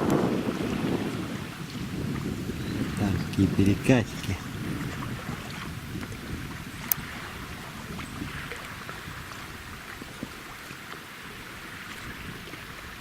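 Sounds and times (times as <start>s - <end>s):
river water splashing around boat: 0.0s - 13.0s
wind noise: 0.0s - 13.0s.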